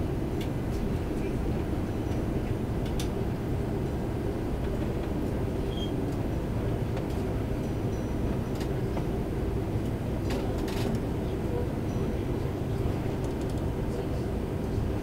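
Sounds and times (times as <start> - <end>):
aircraft engines idling rumble: 0.0 - 15.0.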